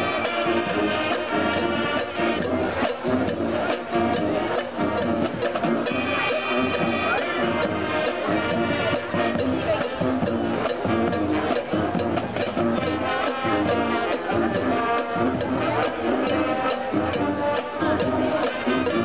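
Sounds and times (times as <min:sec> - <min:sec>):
brass chords: 0:00.0 - 0:19.0
drum strokes: 0:00.0 - 0:19.0.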